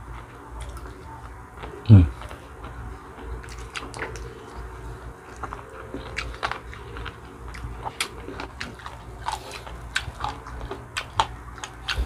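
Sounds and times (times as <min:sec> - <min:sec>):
chewing and biting: 0:00.1 - 0:12.0.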